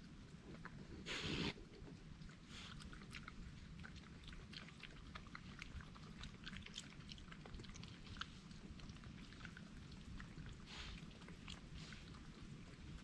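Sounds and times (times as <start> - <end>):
animal chewing food: 0.0 - 13.0.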